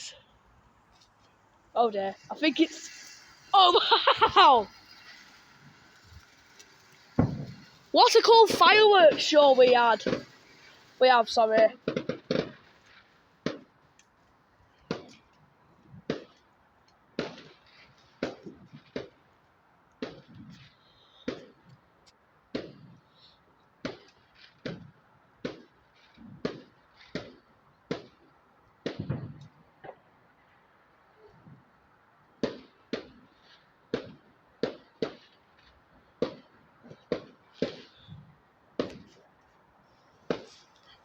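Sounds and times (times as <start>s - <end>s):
fireworks bangs: 0.0s - 13.9s, 14.7s - 16.5s, 17.1s - 19.4s, 20.0s - 21.7s, 22.5s - 23.2s, 23.8s - 30.1s, 32.4s - 41.0s.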